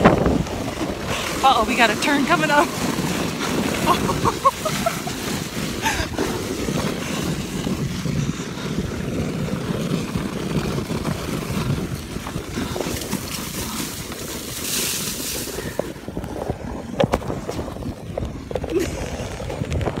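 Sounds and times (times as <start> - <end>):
sled rumbling over snow: 0.0 - 20.0
wind buffeting microphone: 0.0 - 20.0.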